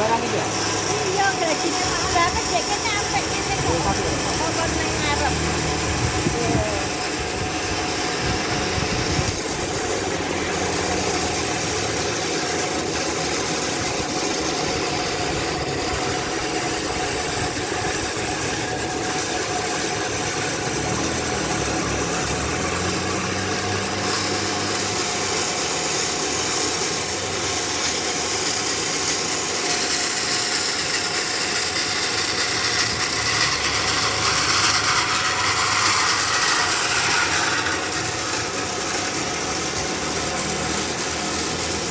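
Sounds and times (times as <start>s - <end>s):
band saw ripping wood: 0.0s - 41.9s.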